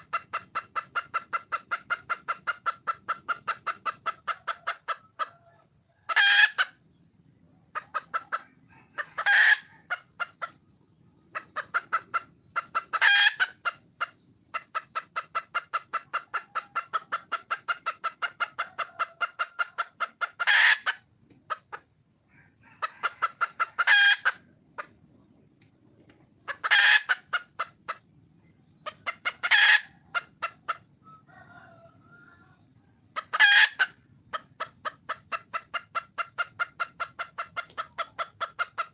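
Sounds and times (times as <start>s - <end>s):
hen clucking rapidly: 0.0s - 38.9s.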